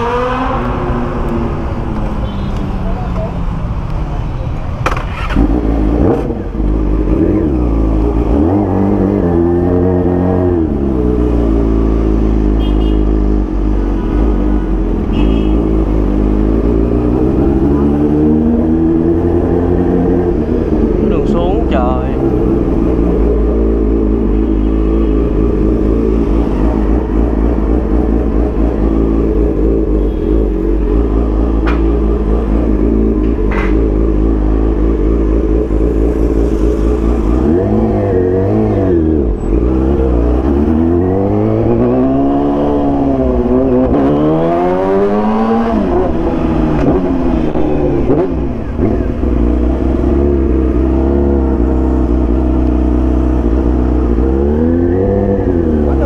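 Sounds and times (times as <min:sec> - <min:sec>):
motorcycle engine revving: 0:04.8 - 0:56.0.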